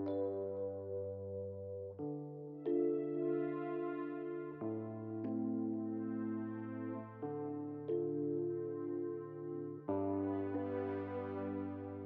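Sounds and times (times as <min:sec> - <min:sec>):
electric piano and synthesizer chords: 0:00.0 - 0:12.0.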